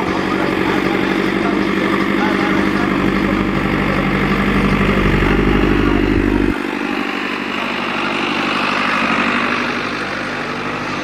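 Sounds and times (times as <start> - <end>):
crowd voices: 0.0 - 11.0
tractor engine running: 0.0 - 11.0.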